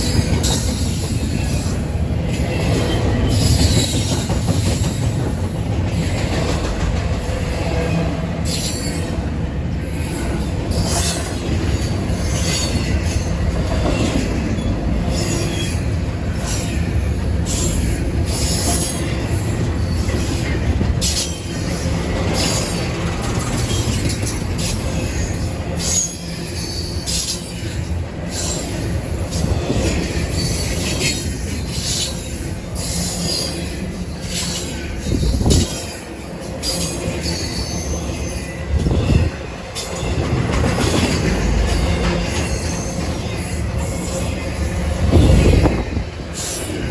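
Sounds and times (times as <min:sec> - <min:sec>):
train rumbling past: 0:00.0 - 0:46.9.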